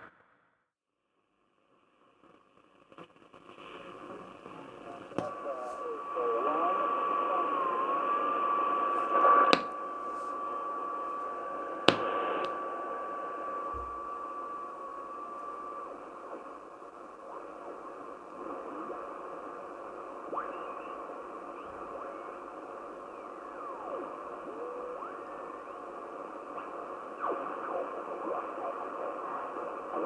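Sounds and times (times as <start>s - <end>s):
radio static hiss: 2.2s - 30.0s
sharp static clicks: 2.2s - 30.0s.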